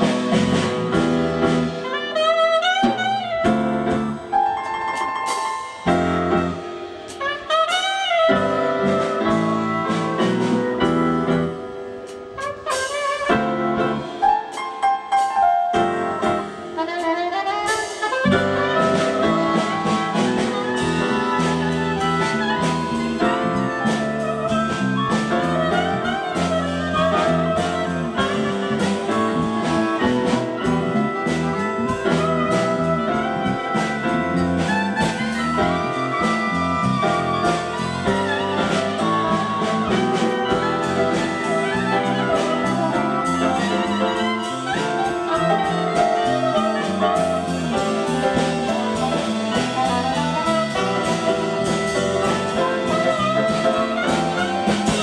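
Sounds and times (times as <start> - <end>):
bass: 0.0 - 55.0
drum kit: 0.0 - 55.0
piano: 0.0 - 55.0
saxophone: 0.0 - 55.0
trombone: 0.0 - 55.0.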